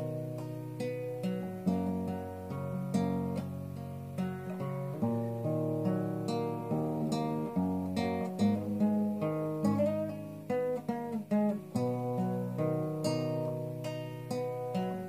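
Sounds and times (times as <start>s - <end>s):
fingerpicked classical guitar: 0.0s - 15.0s.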